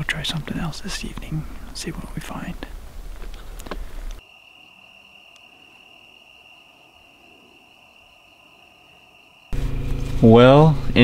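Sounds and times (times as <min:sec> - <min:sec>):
crickets trilling: 0:00.0 - 0:11.0
low rumbling outdoor noise: 0:00.0 - 0:11.0.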